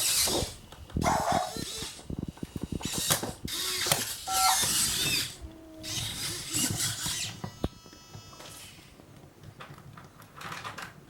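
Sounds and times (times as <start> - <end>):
toy gear motor clicking: 0.0 - 8.9.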